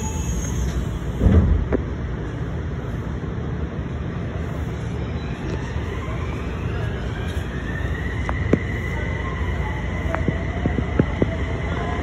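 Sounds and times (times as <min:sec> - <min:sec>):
electric train rumble and whine: 0:00.0 - 0:12.0.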